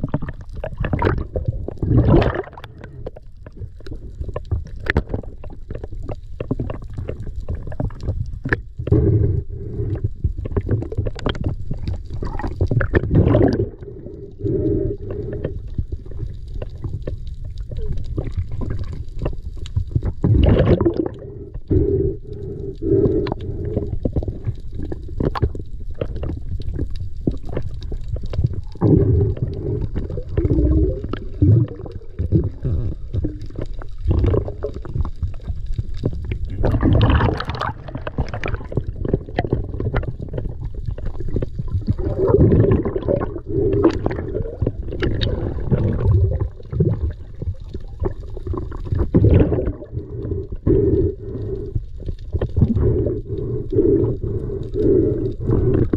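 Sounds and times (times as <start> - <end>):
underwater low rumble: 0.0 - 55.9
water gurgling: 0.0 - 55.9.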